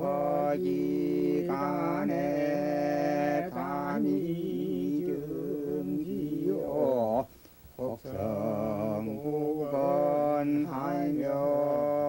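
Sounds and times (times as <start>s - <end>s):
men chanting text: 0.0s - 12.0s.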